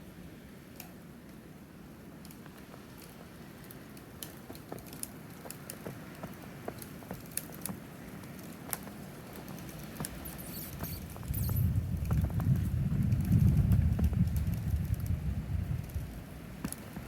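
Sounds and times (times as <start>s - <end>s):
crackling in dry snow: 0.0s - 17.0s
low wind rumble: 0.0s - 17.0s.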